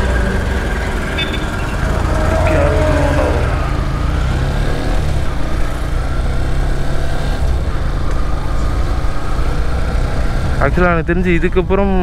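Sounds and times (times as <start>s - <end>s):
motorcycle engine running: 0.0s - 10.9s
road noise: 0.0s - 12.0s.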